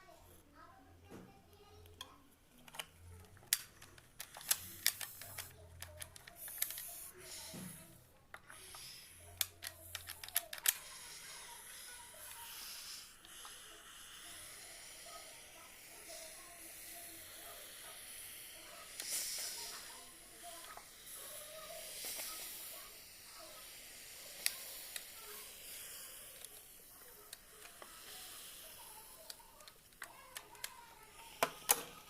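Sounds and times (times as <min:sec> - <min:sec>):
steam iron hissing: 0:06.3 - 0:32.0.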